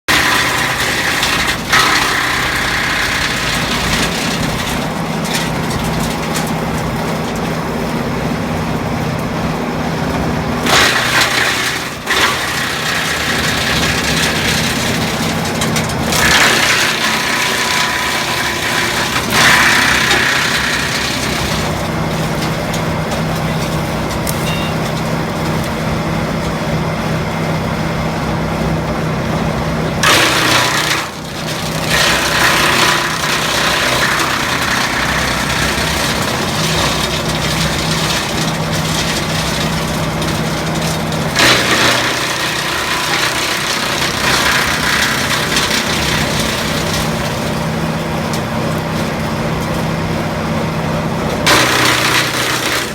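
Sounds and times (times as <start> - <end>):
tractor engine running: 0.0 - 52.9
branch chipper bursts: 0.1 - 52.9.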